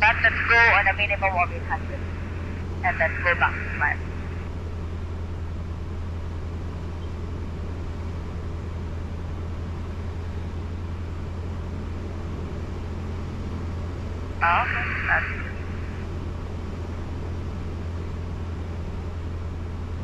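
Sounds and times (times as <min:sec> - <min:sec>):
small plane engine drone in cabin: 0:00.0 - 0:20.0.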